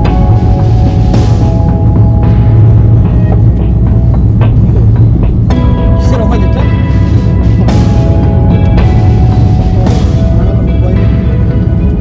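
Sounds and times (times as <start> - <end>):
music with heavy low beat: 0.0 - 12.0.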